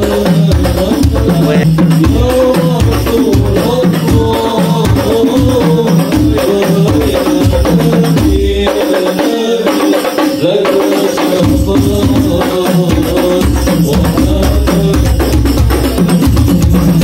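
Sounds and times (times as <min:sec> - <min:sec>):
bass drum beats: 0:00.0 - 0:08.8, 0:11.4 - 0:17.0
person singing devotional melody: 0:00.0 - 0:15.4
darbuka: 0:00.0 - 0:17.0
frame drums: 0:00.0 - 0:17.0.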